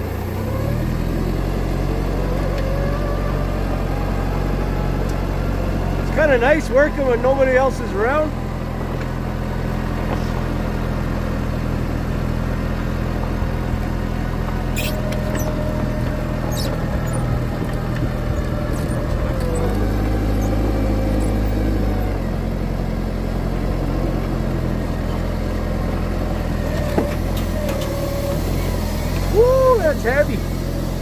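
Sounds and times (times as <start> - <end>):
forklift engine running: 0.0 - 31.0.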